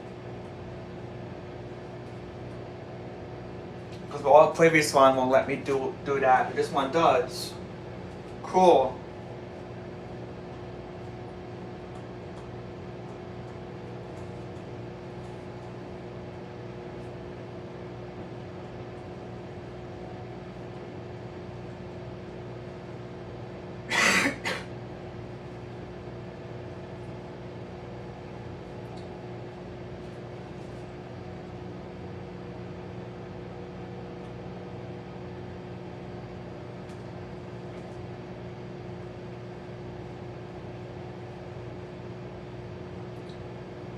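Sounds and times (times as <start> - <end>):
microwave oven humming: 0.0 - 43.9.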